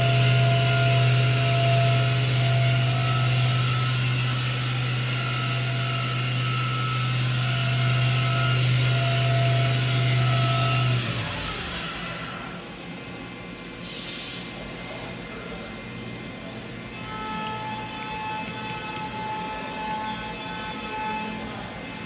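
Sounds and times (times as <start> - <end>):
machine spindle humming: 0.0 - 13.7, 14.8 - 22.0.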